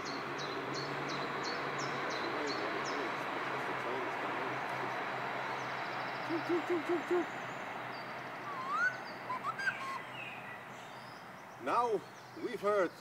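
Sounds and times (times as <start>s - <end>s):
birds hooting: 0.0s - 12.9s
birds chirping: 0.0s - 13.0s
steady background hiss: 0.0s - 13.0s.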